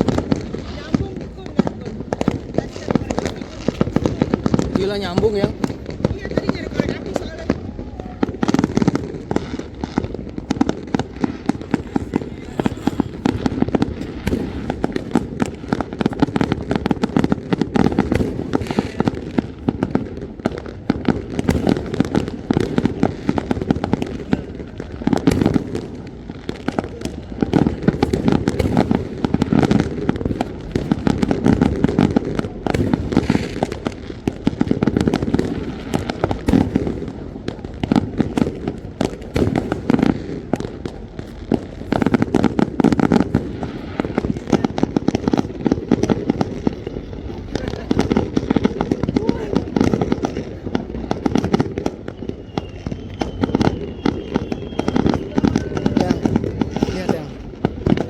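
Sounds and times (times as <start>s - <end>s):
fireworks bangs and pops: 0.0s - 58.0s.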